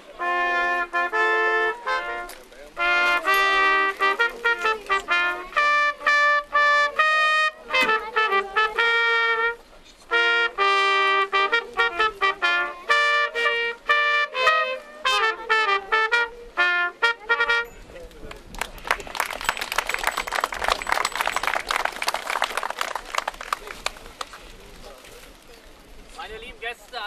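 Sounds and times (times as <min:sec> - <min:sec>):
trumpet playing lively melody: 0:00.0 - 0:18.2, 0:18.9 - 0:22.8.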